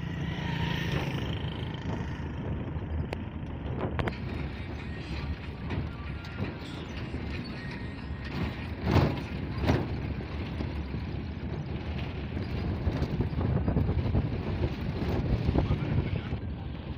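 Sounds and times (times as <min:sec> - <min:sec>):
vehicle rumble: 0:00.0 - 0:16.9.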